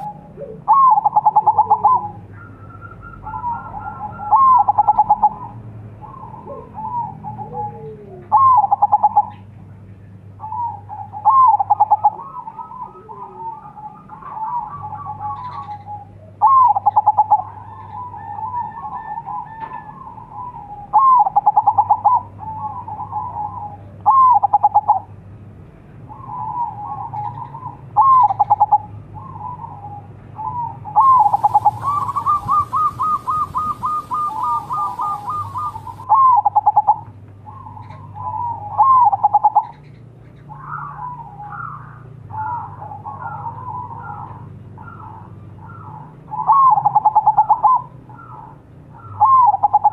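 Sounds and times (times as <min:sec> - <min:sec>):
dove cooing: 0:00.0 - 0:09.5, 0:10.4 - 0:25.1, 0:26.1 - 0:49.9.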